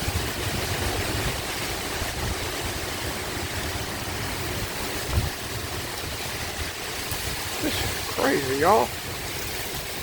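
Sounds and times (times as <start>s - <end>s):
heavy rain pouring: 0.0s - 10.0s
wind buffeting microphone: 0.0s - 10.0s
wind gusting: 0.0s - 10.0s.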